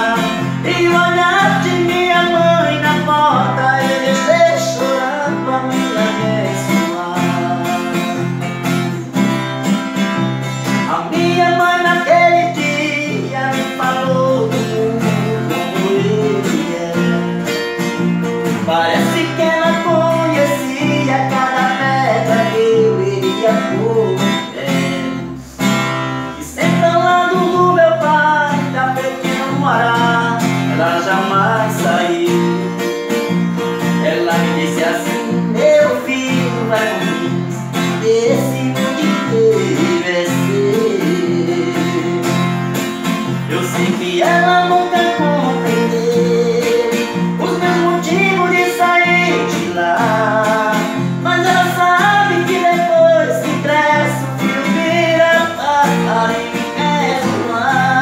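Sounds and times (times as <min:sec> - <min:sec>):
man singing: 0:00.0 - 0:09.4, 0:10.4 - 0:58.0
acoustic guitar strumming: 0:00.0 - 0:58.0.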